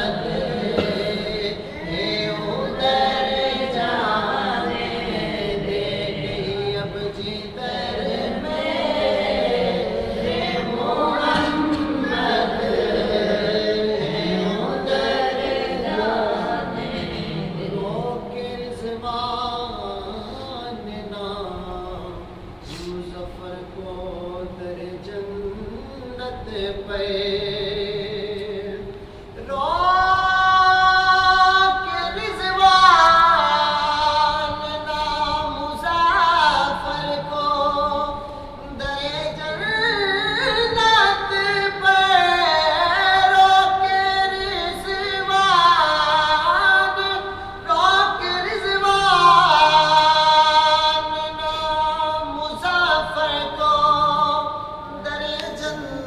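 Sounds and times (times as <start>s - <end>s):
person singing a cappella: 0.0s - 56.0s.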